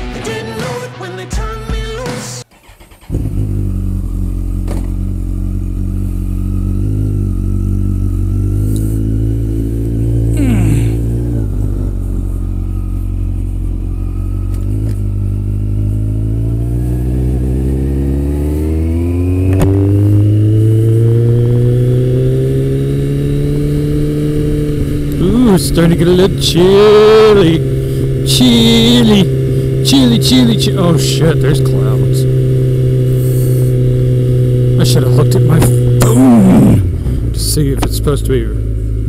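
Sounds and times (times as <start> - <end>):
motorcycle engine accelerating: 2.4 - 39.0.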